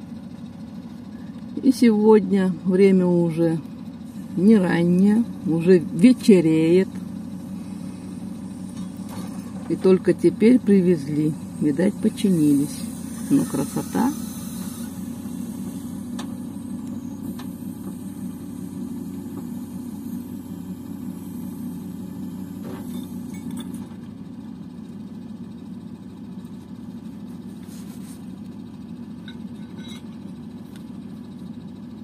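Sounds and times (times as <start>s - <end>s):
truck engine and hydraulics drone: 0.0s - 32.0s.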